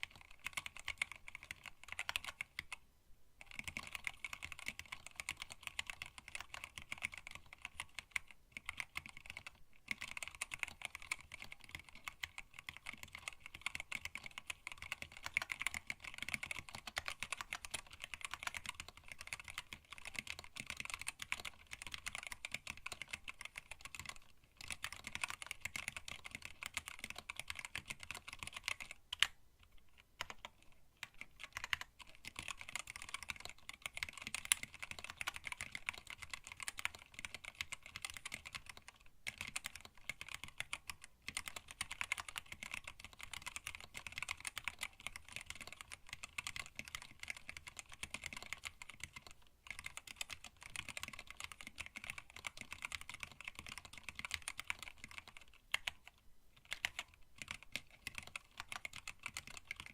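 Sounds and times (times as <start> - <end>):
mechanical keyboard typing: 0.0 - 2.8, 3.4 - 59.9.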